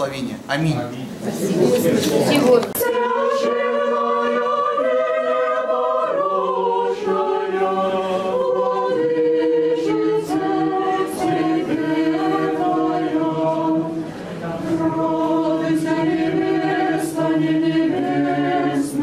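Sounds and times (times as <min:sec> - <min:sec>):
choir singing a cappella: 0:01.4 - 0:19.0.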